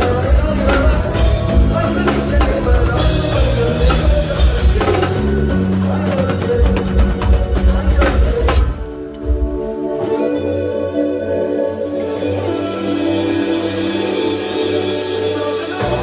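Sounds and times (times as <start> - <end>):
drum kit beat: 0.0 - 9.8, 11.8 - 16.0
bass line: 0.0 - 16.0
live band playing: 0.0 - 16.0.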